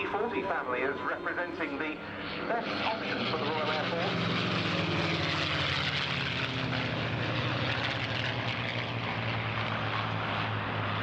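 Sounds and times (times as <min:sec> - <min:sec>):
propeller plane engines flying past: 0:00.0 - 0:11.0.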